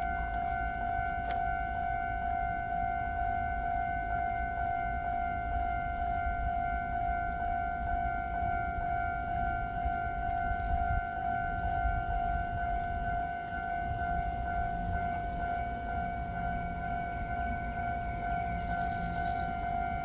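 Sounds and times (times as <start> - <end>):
steady electronic warning tone: 0.0 - 20.0.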